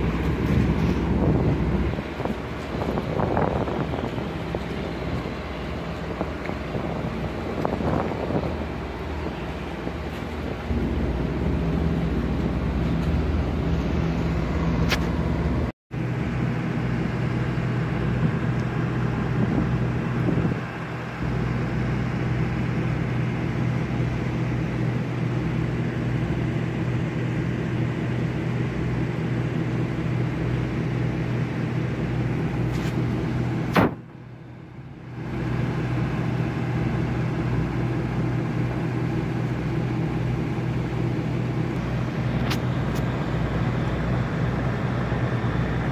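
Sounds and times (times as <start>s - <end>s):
diesel engine low hum: 0.0s - 45.9s.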